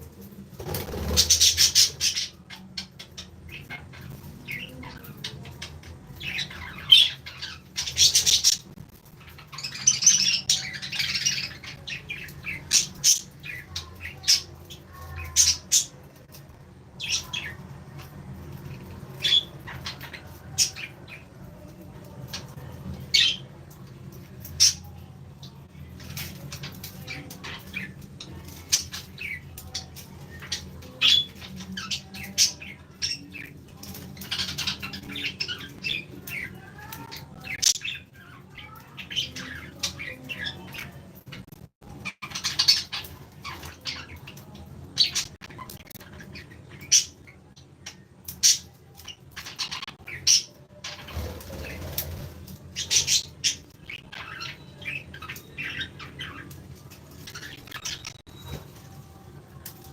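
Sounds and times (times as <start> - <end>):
birds chirping and squawking: 0.1 - 59.9.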